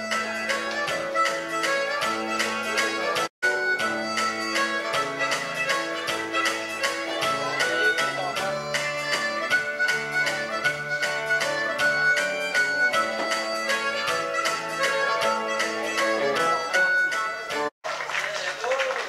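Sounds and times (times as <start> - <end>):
harmonica playing lead: 0.0 - 17.7
live band playing: 0.0 - 17.7.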